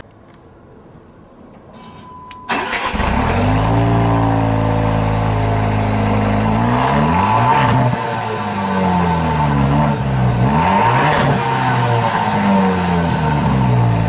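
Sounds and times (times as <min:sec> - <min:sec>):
car engine starting and idling: 0:02.5 - 0:14.0.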